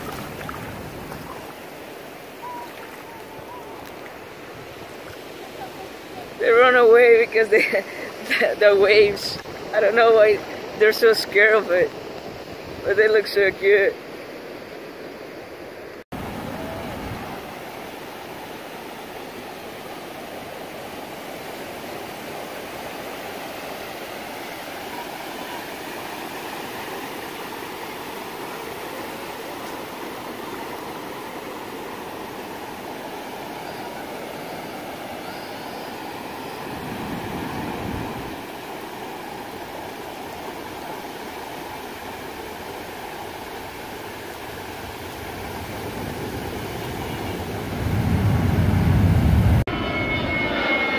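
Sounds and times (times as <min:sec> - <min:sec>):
seawater washing over sand: 0:00.0 - 0:13.9, 0:16.1 - 0:48.9.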